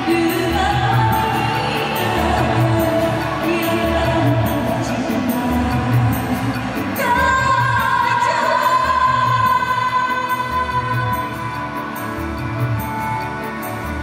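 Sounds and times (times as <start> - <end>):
person singing over loudspeakers: 0.0 - 12.2
karaoke backing track with beat: 0.0 - 14.0.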